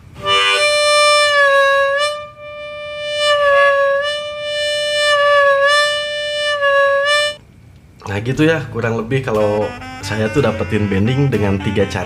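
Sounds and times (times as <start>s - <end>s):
harmonica note bending: 0.0s - 7.4s, 9.4s - 12.0s.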